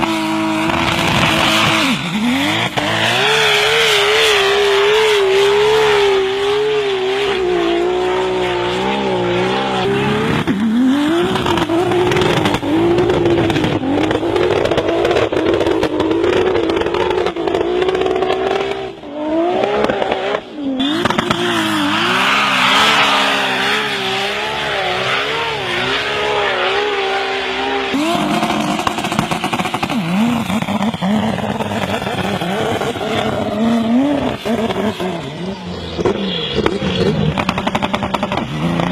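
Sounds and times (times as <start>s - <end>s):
engine revving hard: 0.0s - 38.9s.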